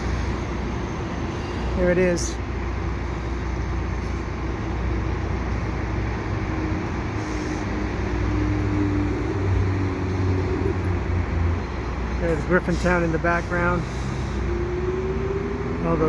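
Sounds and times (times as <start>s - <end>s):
diesel locomotive droning: 0.0s - 16.0s.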